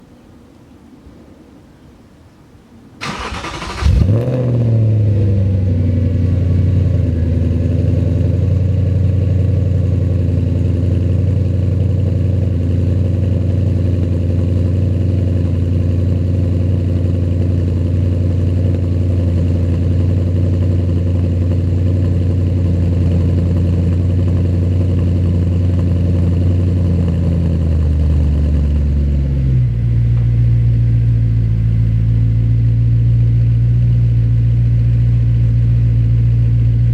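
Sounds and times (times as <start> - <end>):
car engine idling: 3.0 - 36.9.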